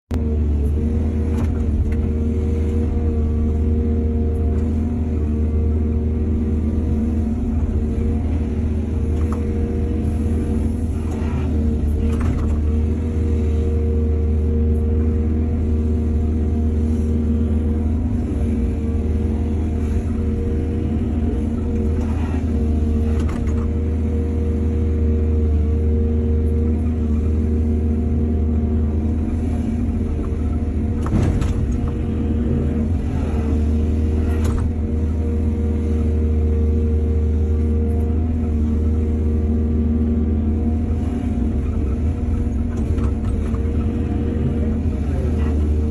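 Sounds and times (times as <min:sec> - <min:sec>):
excavator diesel engine running: 0:00.1 - 0:45.9.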